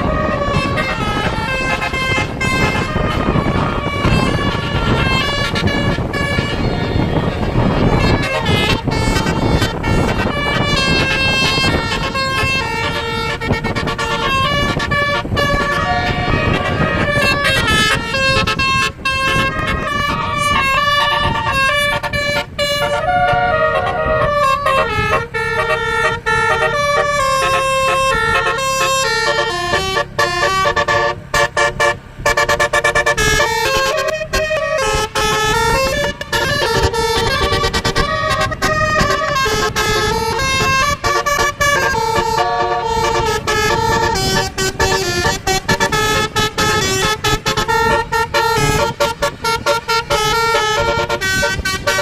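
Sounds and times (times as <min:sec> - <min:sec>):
bus engine rumble: 0:00.0 - 0:52.0
multi-tone air horn melody: 0:00.0 - 0:52.0.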